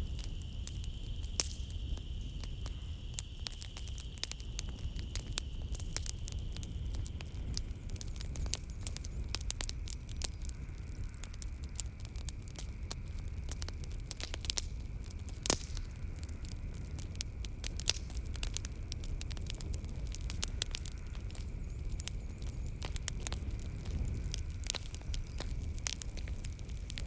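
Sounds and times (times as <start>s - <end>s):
night insects droning: 0.0s - 27.0s
wood fire crackling: 0.0s - 27.0s.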